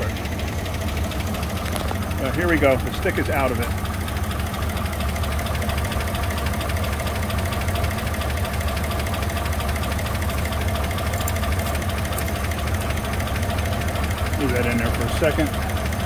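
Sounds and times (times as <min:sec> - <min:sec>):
engine idling with rapid tapping: 0:00.0 - 0:16.0.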